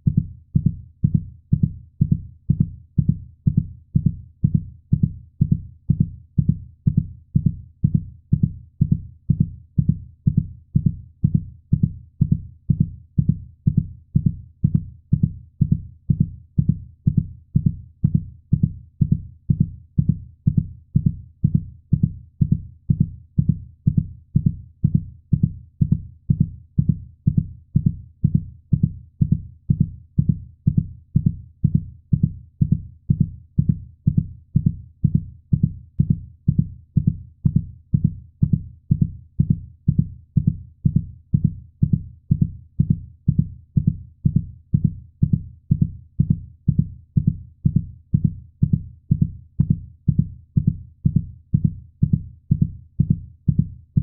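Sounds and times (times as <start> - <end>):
heartbeat thumps: 0.0 - 54.0.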